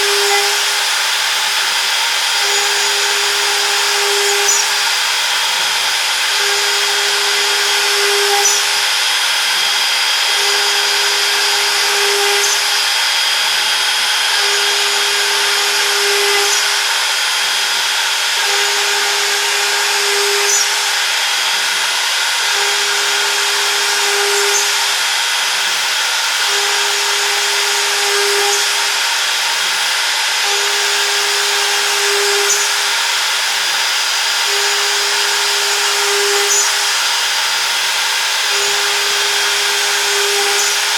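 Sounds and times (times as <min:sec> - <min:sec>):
router spindle high-pitched whine: 0:00.0 - 0:40.9.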